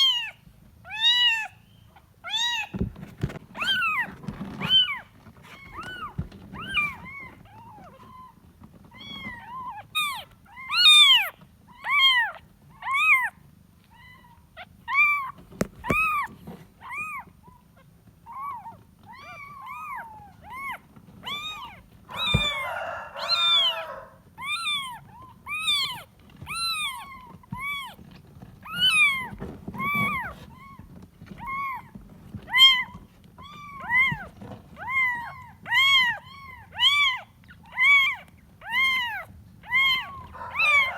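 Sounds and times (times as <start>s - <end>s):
kitten meowing: 0.0s - 1.6s, 2.2s - 2.8s, 3.5s - 5.0s, 5.6s - 28.0s, 28.6s - 40.9s.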